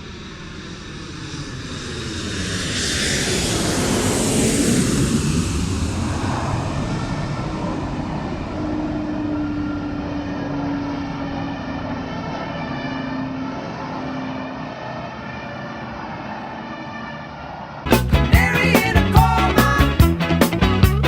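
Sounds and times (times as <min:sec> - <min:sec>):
airplane passing close by: 0:00.0 - 0:19.4.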